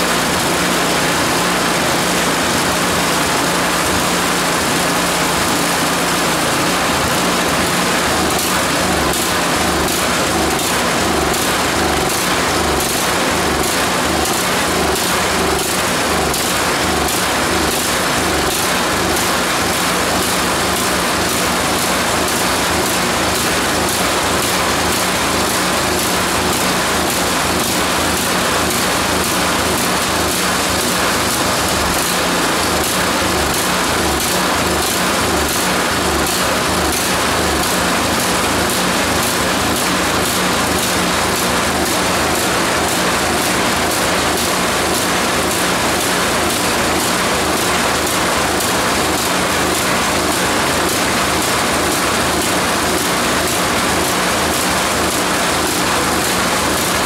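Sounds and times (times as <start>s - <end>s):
small engine running unmuffled: 0.0s - 57.0s.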